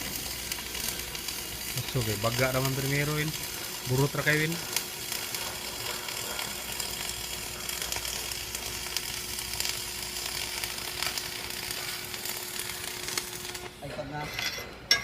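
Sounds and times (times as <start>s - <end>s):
welding arc crackling: 0.0s - 14.3s.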